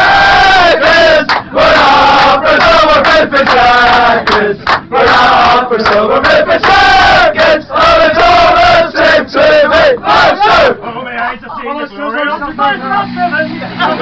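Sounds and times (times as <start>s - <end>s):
men chanting and singing: 0.0s - 14.0s.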